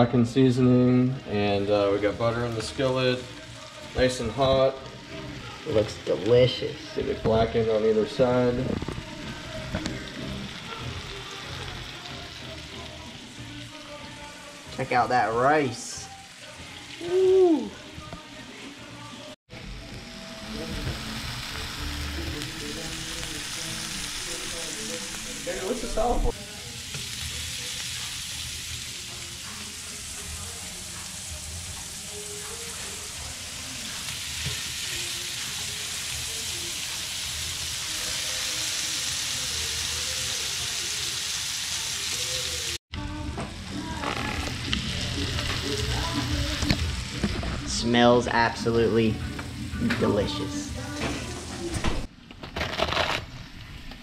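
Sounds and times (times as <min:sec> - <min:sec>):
fish sizzling in butter: 0:00.6 - 0:19.1, 0:20.1 - 0:42.8, 0:43.7 - 0:51.6.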